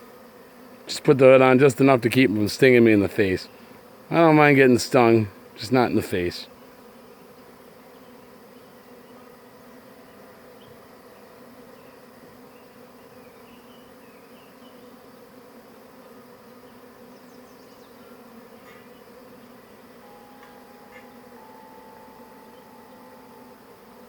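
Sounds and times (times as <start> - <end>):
bee swarm buzzing: 0.0 - 24.0.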